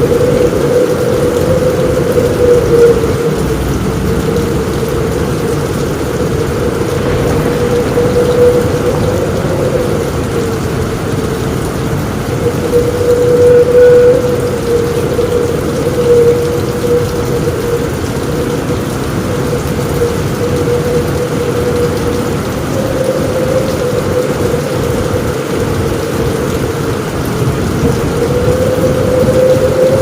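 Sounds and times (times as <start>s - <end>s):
heavy rain on a roof: 0.0s - 30.0s
low rumble of thunder: 0.0s - 30.0s
wavering whistle-like tone: 0.0s - 30.0s.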